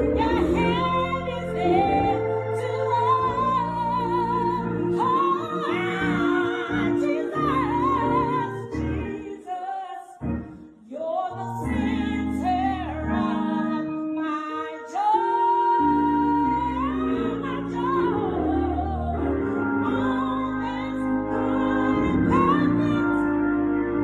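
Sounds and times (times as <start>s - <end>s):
bass and keyboard accompaniment: 0.0s - 9.4s, 10.2s - 24.0s
person singing gospel: 0.0s - 24.0s.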